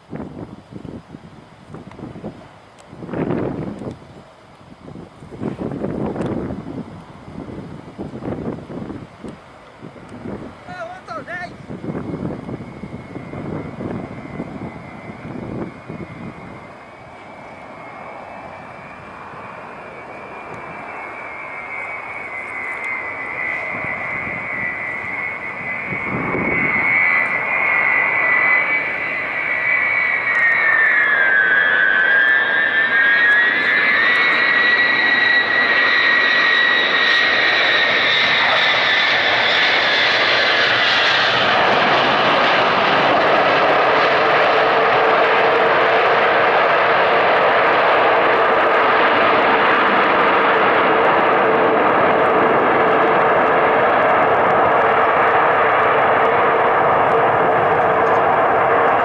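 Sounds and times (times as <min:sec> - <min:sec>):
jet engine whine and rush: 0:00.0 - 0:59.0.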